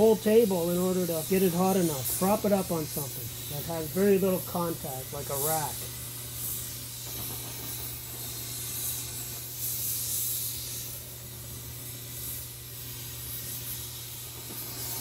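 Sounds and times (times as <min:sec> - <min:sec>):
cutting torch flame hissing: 0:00.0 - 0:15.0.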